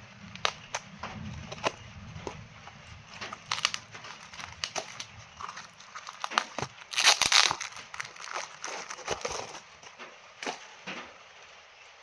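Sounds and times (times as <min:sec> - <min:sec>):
plant packaging crackling and rustling: 0:00.0 - 0:11.2.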